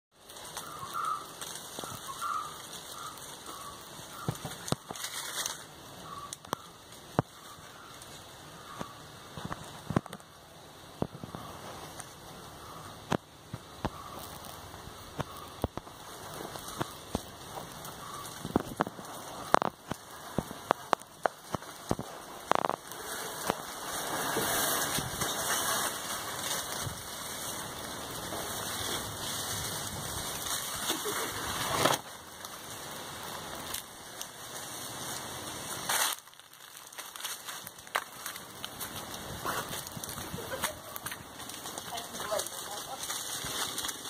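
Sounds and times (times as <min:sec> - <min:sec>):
dry leaves crackling underfoot: 0:00.1 - 0:44.0.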